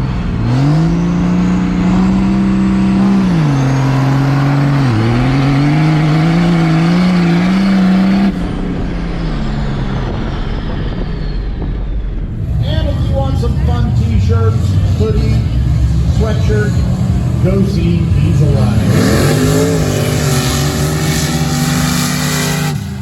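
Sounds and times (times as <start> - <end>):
diesel engine at full throttle: 0.0 - 23.0.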